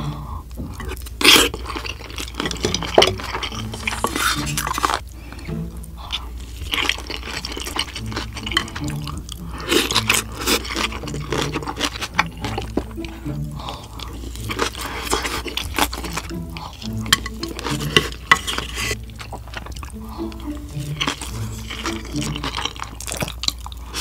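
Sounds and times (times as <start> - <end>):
wet chewing and mouth noises: 0.0 - 24.0.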